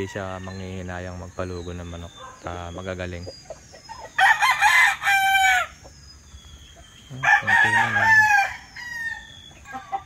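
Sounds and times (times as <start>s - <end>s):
roosters crowing: 0.0s - 10.0s.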